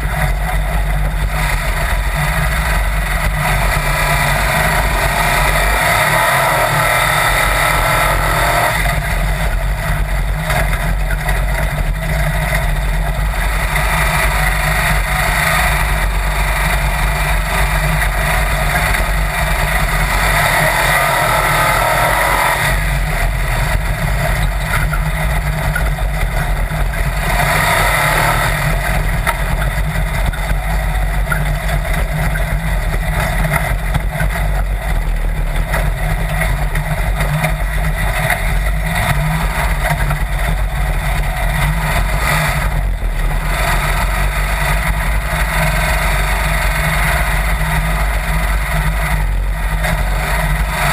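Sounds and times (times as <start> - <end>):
dune buggy engine running: 0.0 - 50.9.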